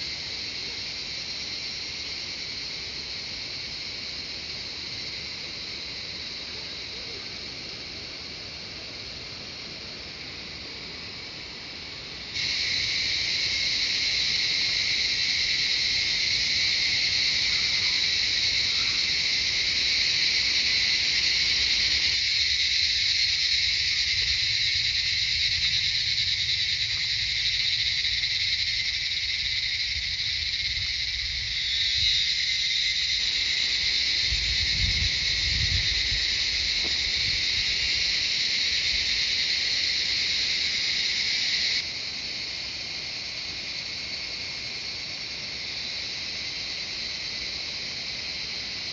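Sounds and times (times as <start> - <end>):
cicadas singing: 0.0 - 48.9.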